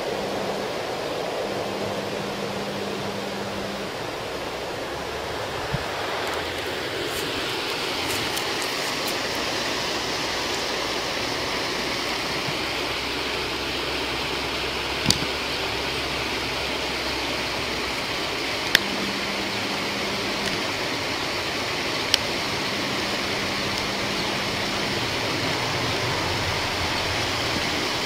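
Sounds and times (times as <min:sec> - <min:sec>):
flowing water hissing: 0:00.0 - 0:28.0.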